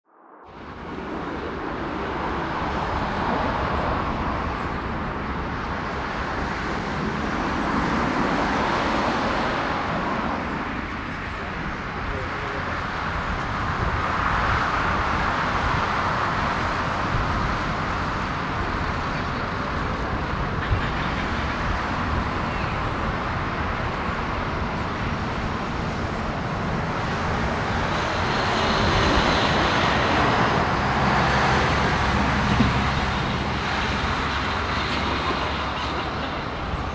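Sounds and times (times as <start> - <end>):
jet engines rumbling: 0.5 - 36.9.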